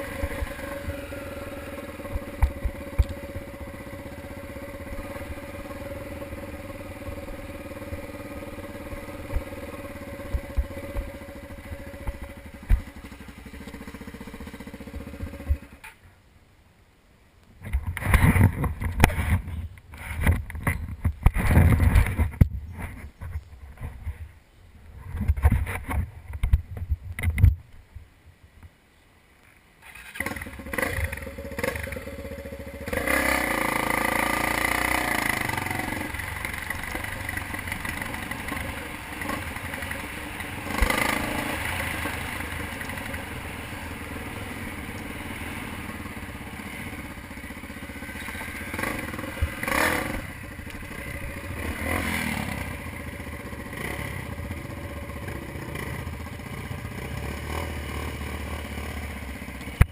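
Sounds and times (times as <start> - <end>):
off-road motorcycle engine: 0.0 - 16.2, 17.6 - 27.6, 29.5 - 59.9.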